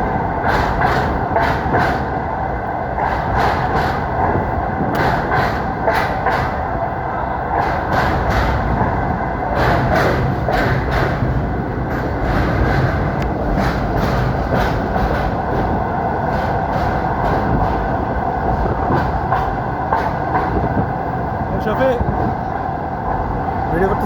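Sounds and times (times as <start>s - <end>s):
train rumbling: 0.0s - 24.0s
train wheels clacking on track: 0.0s - 24.0s.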